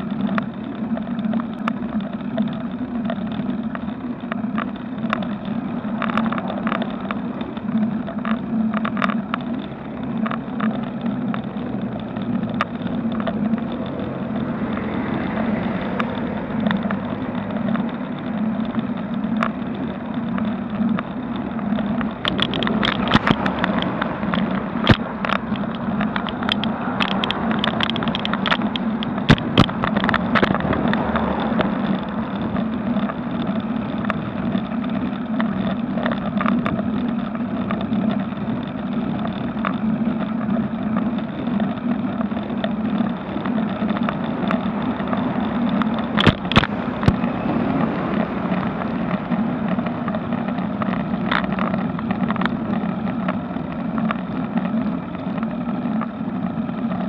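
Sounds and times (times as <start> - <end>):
bike clicks and rattles: 0.0 - 57.0
road and wind noise: 0.0 - 57.0
steady hum: 0.0 - 57.0.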